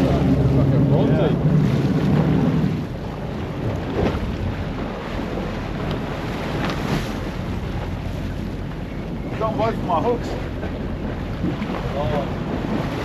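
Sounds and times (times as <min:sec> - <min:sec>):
sea wash: 0:00.0 - 0:13.0
wind buffeting microphone: 0:00.0 - 0:13.0.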